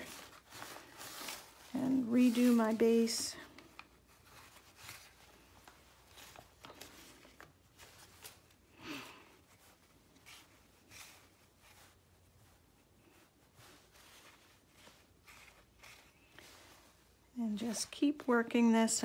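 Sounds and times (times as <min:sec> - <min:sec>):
paper rustling: 0:00.0 - 0:08.7, 0:09.4 - 0:17.1
soft rubbing of clay: 0:00.0 - 0:19.0.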